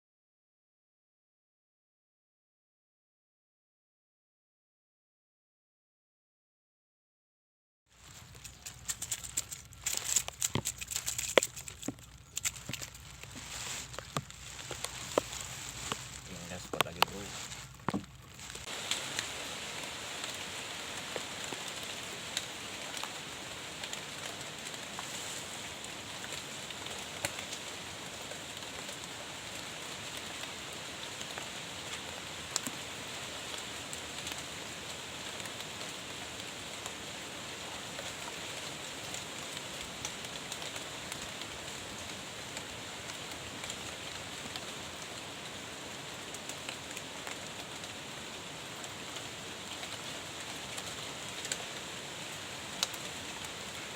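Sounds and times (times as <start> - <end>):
heavy rain hiss: 8.0 - 53.9.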